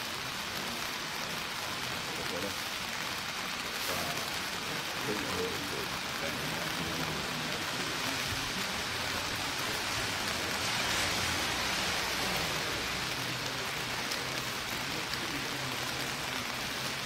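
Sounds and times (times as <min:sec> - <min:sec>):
ground fireworks hissing: 0:00.0 - 0:17.0.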